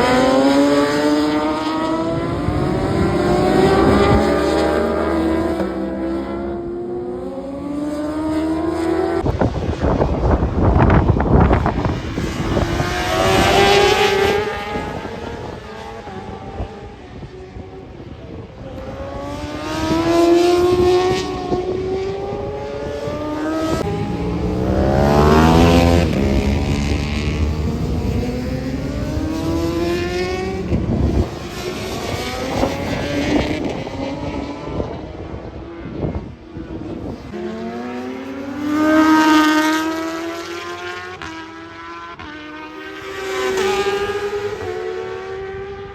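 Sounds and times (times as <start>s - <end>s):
racing motorcycles passing: 0.0s - 45.9s.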